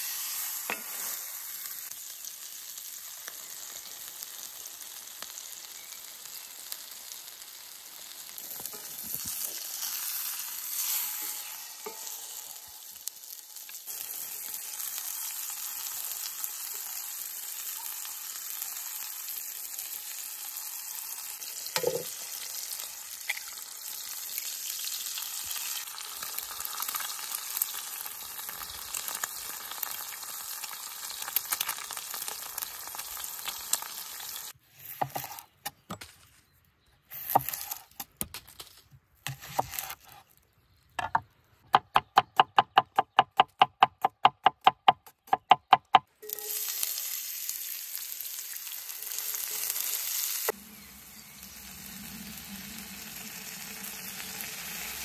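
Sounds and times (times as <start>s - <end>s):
burger patty sizzling in pan: 0.0s - 35.4s, 46.2s - 55.0s.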